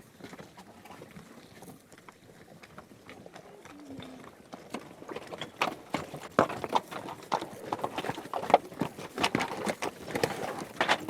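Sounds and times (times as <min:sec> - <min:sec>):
horse hooves galloping: 0:00.0 - 0:11.0.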